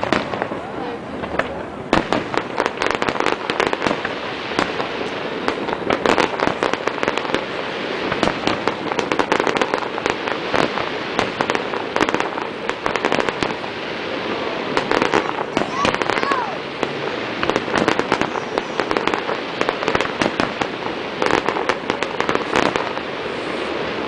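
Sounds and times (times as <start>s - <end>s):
fireworks crackle: 0.0s - 24.0s
fireworks pops and bangs: 0.0s - 24.0s.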